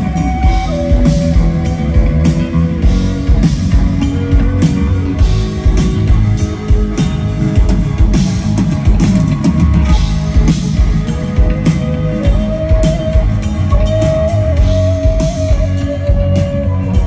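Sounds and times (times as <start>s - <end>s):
guitar notes: 0.0s - 17.0s
live rock band playing: 0.0s - 17.0s.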